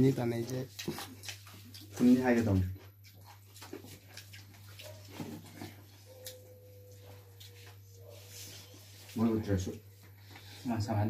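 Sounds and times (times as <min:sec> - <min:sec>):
low electrical hum: 0:00.0 - 0:11.0
people eating with mouth sounds: 0:00.0 - 0:11.0.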